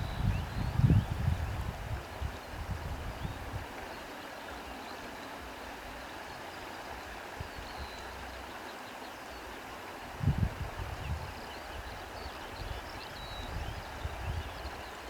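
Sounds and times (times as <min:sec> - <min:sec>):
wind rustling through reeds: 0:00.0 - 0:08.6, 0:09.2 - 0:15.0.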